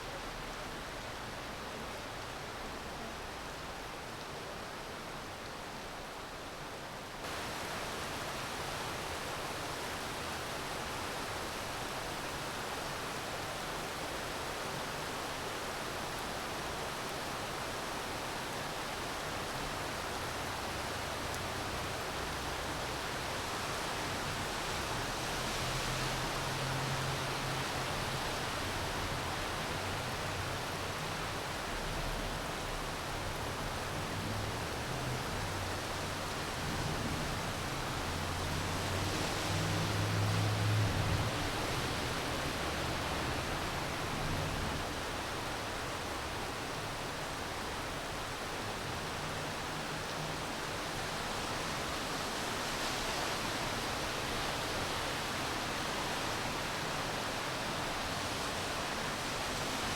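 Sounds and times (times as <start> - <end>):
rain falling: 7.2 - 59.9.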